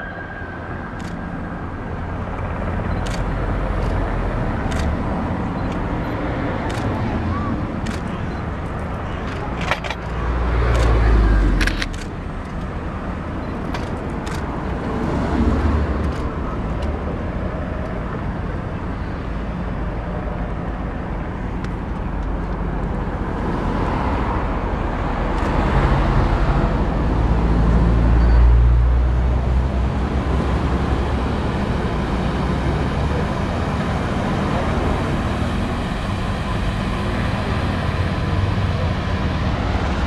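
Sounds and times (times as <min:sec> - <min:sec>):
rumble of distant vehicles: 0:00.0 - 0:40.0.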